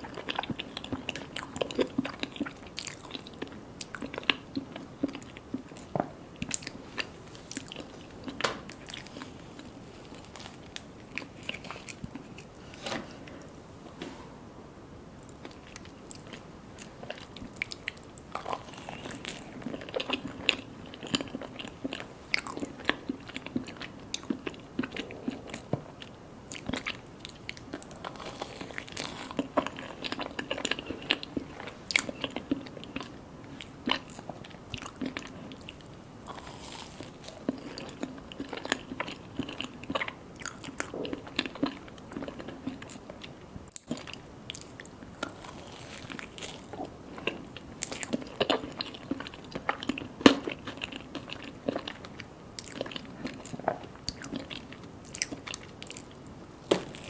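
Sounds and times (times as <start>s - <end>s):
person eating and chewing: 0.0s - 14.0s, 15.2s - 57.0s.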